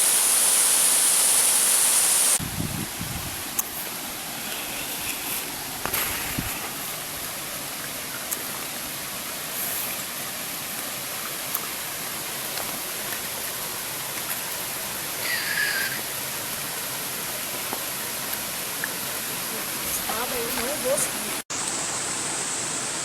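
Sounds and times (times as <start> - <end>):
waterfall rushing: 3.3 - 23.0.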